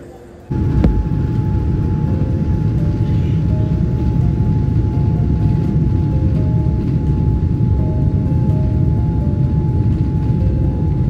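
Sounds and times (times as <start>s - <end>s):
light background music: 0.0s - 11.0s
airliner cabin rumble: 0.5s - 11.0s.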